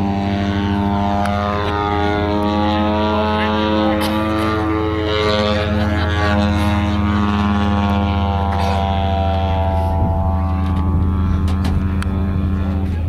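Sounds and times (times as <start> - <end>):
model plane engine drone: 0.0 - 13.0.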